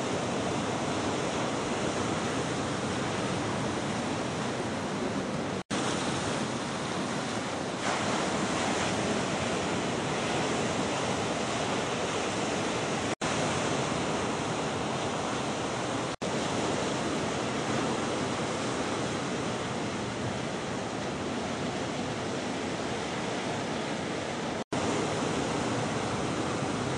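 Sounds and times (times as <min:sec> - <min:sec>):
ocean waves breaking: 0:00.0 - 0:26.9.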